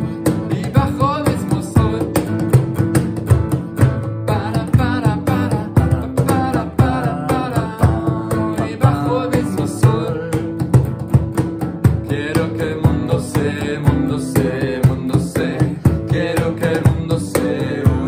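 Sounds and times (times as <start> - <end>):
men singing: 0.0 - 2.7, 4.0 - 11.1, 11.9 - 18.0
acoustic guitar strumming: 0.0 - 18.0.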